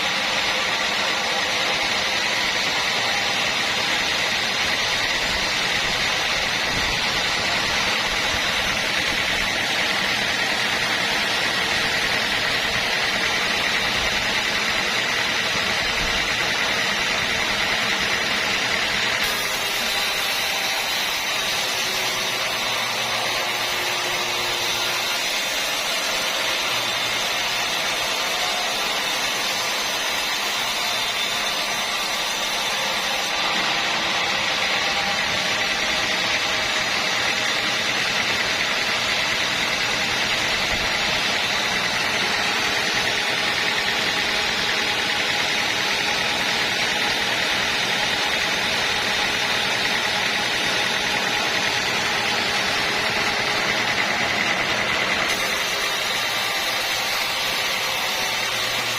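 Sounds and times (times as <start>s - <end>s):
sawmill machinery whining: 0.0s - 58.9s.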